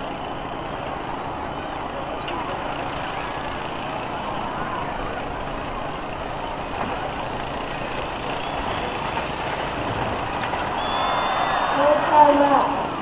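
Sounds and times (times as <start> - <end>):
bus engines running and revving: 0.0 - 13.0.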